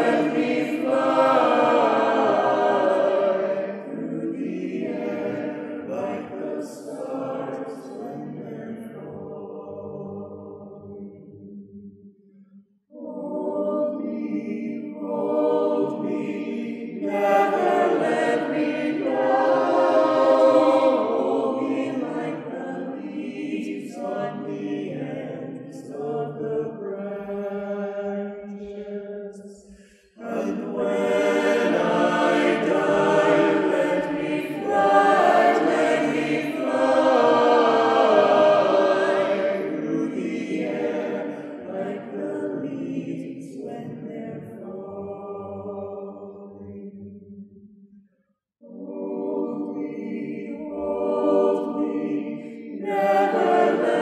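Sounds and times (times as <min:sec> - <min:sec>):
mixed choir singing a cappella: 0:00.0 - 0:11.4, 0:12.9 - 0:47.1, 0:48.6 - 0:54.0.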